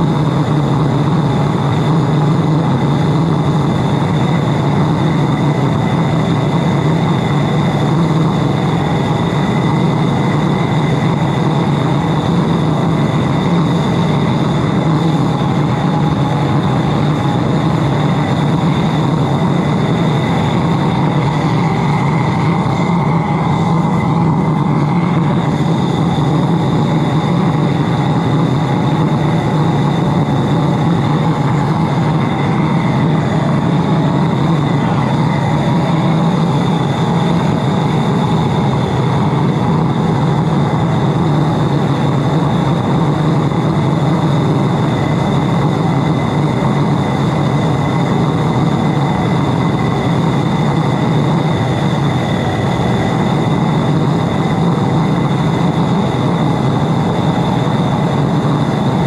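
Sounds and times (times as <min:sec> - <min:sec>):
burner deep rushing roar: 0:00.0 - 0:59.0
thin steady high tones: 0:03.3 - 0:59.0.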